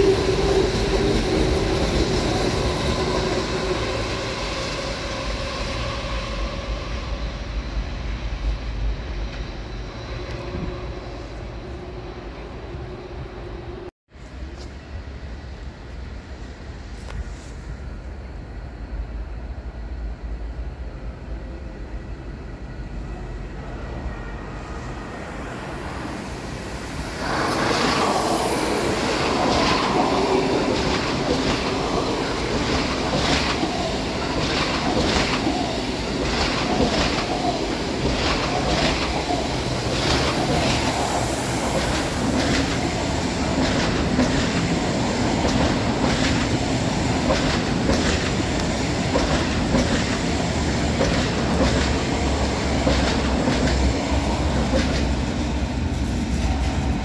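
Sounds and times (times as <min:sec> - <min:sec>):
train running past: 0:00.0 - 0:57.0.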